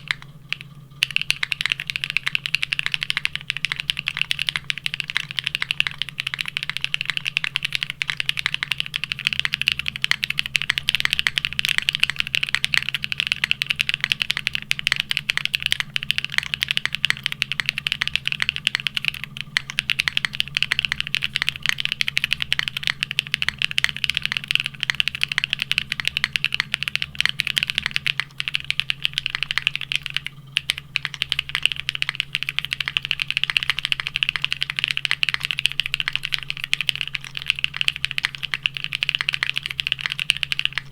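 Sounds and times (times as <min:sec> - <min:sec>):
mechanical keyboard typing: 0:00.0 - 0:40.9
steady low hum: 0:00.0 - 0:40.9.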